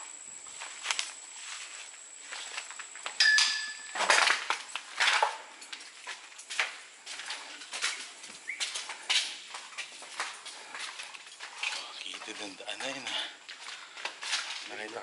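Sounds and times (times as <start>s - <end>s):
footsteps crunching through undergrowth: 0.1s - 3.2s, 3.8s - 15.0s.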